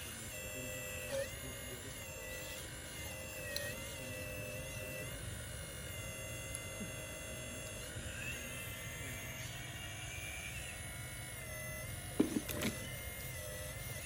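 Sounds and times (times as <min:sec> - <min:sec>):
rising and falling whine: 0:00.0 - 0:14.0.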